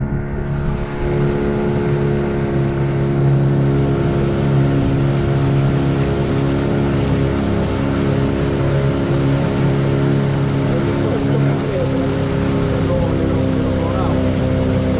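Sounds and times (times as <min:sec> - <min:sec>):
motorboat engine running: 0:00.0 - 0:14.9.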